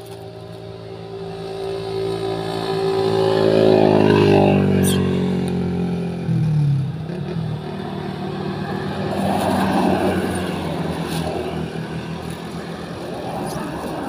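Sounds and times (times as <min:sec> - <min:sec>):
faint engine hum: 0:00.0 - 0:14.0
vehicle passing on road: 0:00.0 - 0:14.0.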